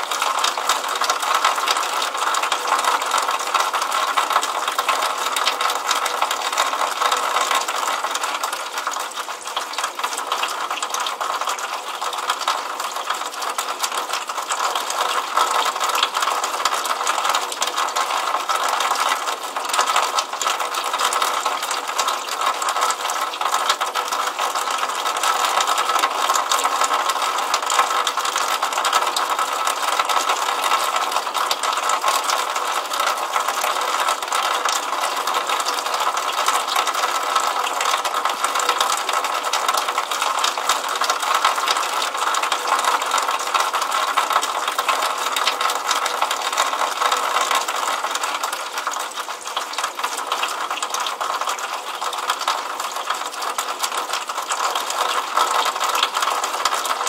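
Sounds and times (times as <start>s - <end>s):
water pouring into puddle: 0.0s - 57.0s.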